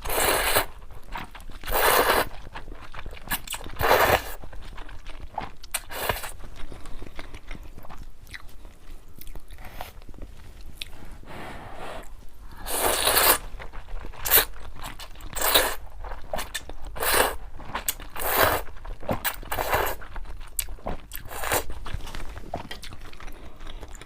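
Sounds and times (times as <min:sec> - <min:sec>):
close-miked eating noodles: 0:00.0 - 0:24.0.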